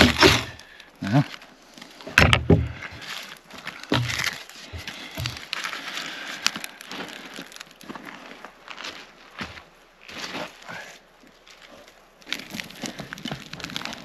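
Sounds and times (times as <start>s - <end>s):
dry sticks snapping and crunching: 0.0s - 9.0s, 11.4s - 14.0s.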